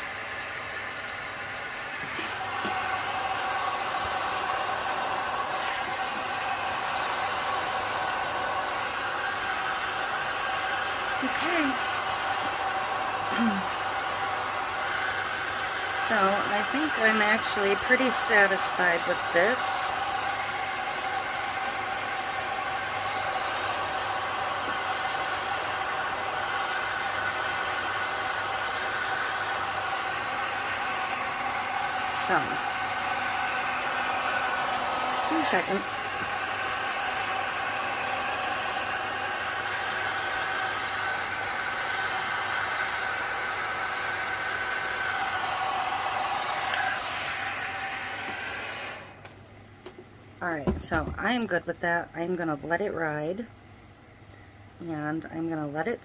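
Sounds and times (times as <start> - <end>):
heat gun blowing: 0.0 - 49.2.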